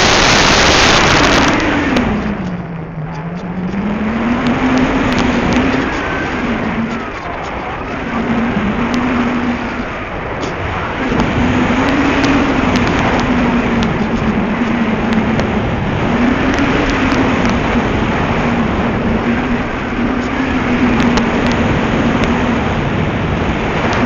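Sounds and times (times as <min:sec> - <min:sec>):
model plane engine buzzing: 0:00.0 - 0:24.0
wind noise: 0:00.0 - 0:24.0.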